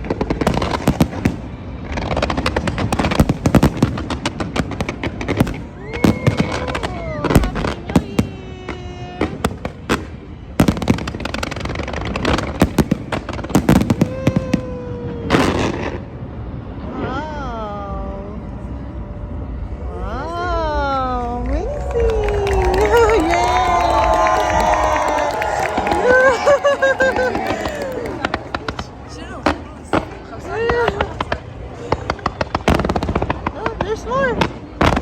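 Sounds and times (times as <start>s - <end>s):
whistling fireworks: 0.0s - 17.2s, 21.5s - 35.0s
fireworks bangs and crackling: 0.0s - 17.3s, 21.6s - 35.0s.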